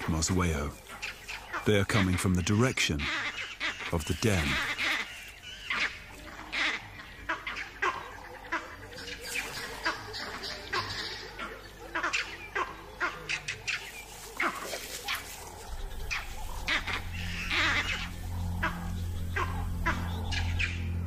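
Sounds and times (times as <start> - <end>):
monkeys giving alarm calls: 0.0 - 21.0.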